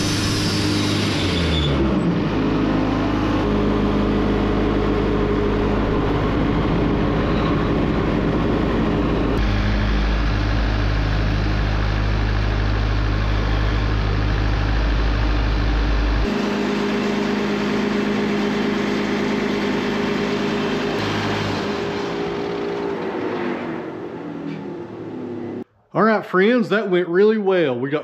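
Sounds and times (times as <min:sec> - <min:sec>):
sawmill engine droning: 0:00.0 - 0:25.6.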